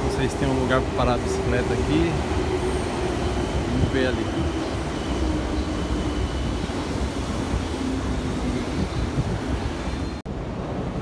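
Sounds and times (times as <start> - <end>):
wind buffeting microphone: 0.7 - 11.0.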